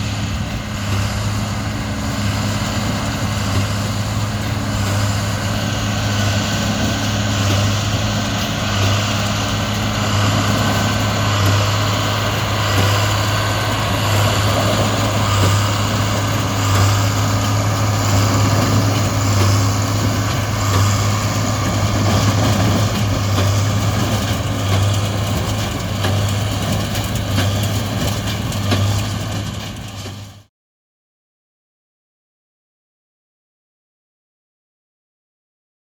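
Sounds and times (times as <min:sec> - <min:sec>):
diesel engine running: 0:00.0 - 0:30.5.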